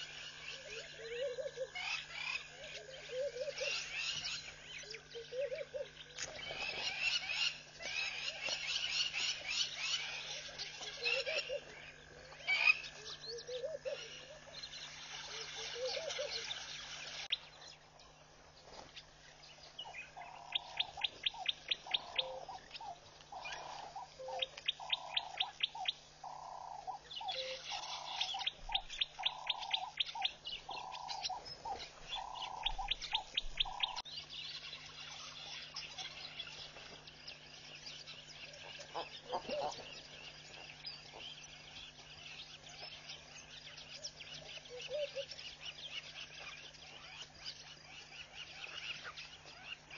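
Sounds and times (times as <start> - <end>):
rising frog calls: 0.0 - 17.5, 19.8 - 36.8, 37.5 - 46.2
birds chirping and calling: 0.0 - 49.9.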